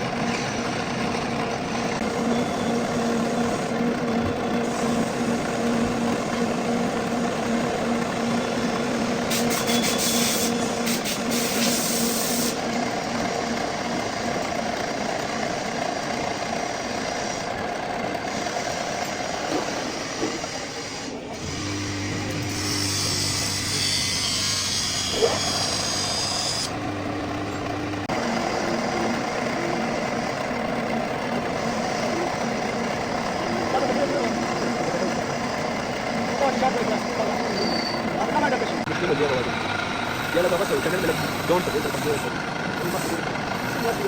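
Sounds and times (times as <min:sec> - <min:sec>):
metal lathe running: 0:00.0 - 0:44.0.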